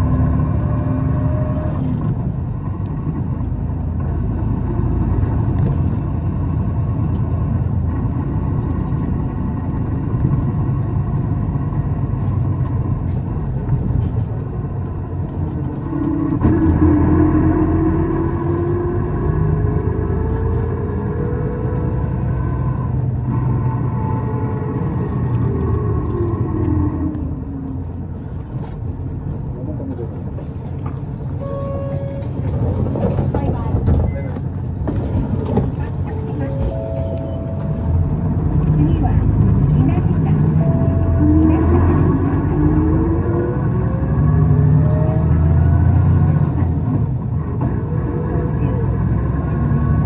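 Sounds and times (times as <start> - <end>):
bus engine and road rumble: 0.0 - 50.0.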